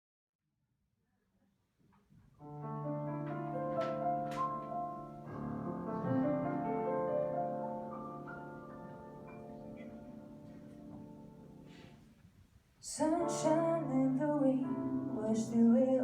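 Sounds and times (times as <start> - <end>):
grand piano playing slowly: 2.4 - 12.2, 12.9 - 16.0.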